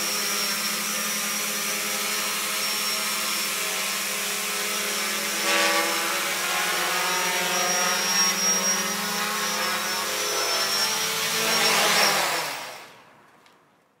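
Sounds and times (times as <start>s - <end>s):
quadcopter motors buzzing: 0.0s - 13.0s.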